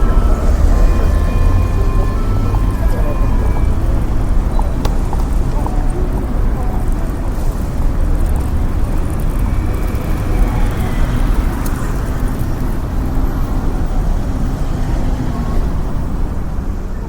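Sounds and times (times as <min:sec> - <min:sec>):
murmurs of passers-by: 0:00.0 - 0:17.0
road traffic rumble: 0:00.0 - 0:17.0.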